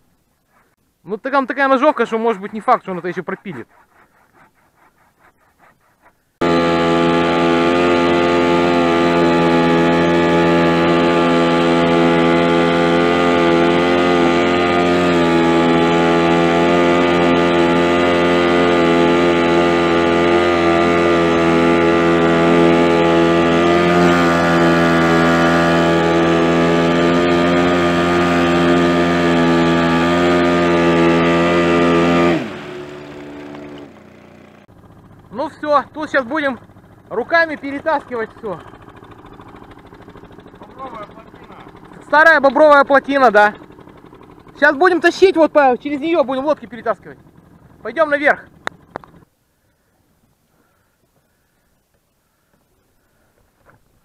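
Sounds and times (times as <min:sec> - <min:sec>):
hand saw strokes: 0:00.0 - 0:34.6, 0:35.3 - 0:47.1
outboard motor humming: 0:00.0 - 0:49.9.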